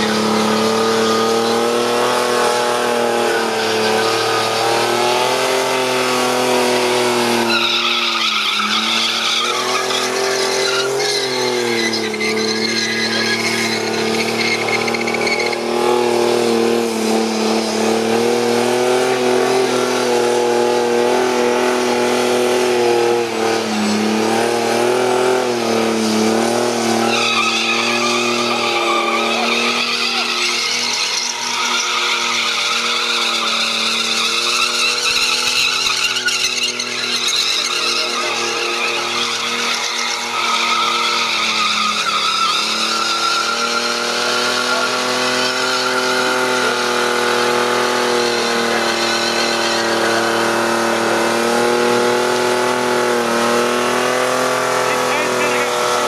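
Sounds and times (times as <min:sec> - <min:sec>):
car engine revving high: 0:00.0 - 0:56.0
tyres squealing: 0:00.0 - 0:56.0.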